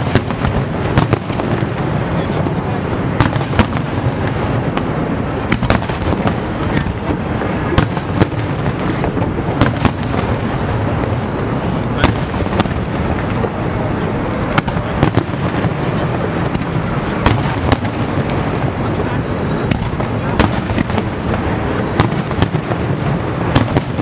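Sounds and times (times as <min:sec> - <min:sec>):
fireworks bursting with bangs and crackles: 0:00.0 - 0:24.0.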